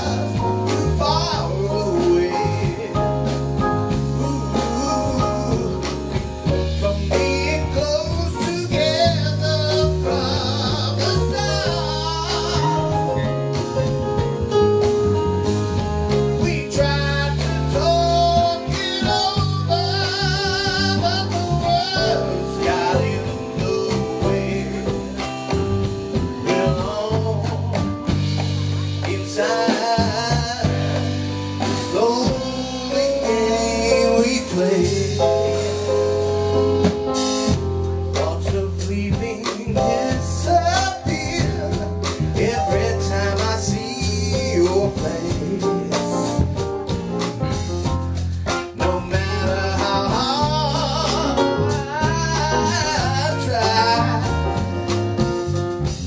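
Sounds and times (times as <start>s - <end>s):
live band playing: 0.0s - 56.0s.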